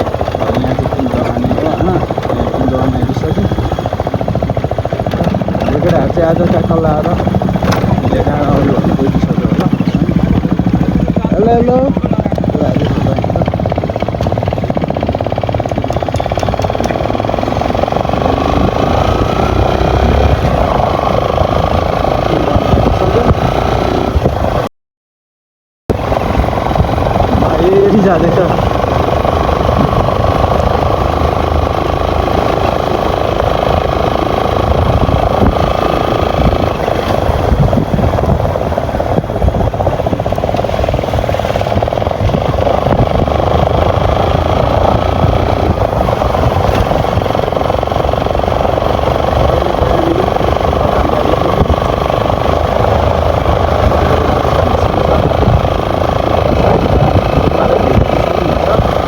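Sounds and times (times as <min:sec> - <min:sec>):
motorcycle engine running: 0:00.0 - 0:24.7, 0:25.9 - 0:59.0
wind on microphone: 0:00.0 - 0:24.7, 0:25.9 - 0:59.0.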